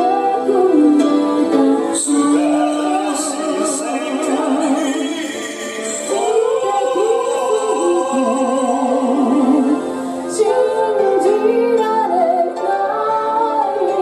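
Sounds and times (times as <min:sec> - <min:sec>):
woman singing pop song: 0:00.0 - 0:05.1, 0:06.1 - 0:14.0
keyboard backing track: 0:00.0 - 0:14.0.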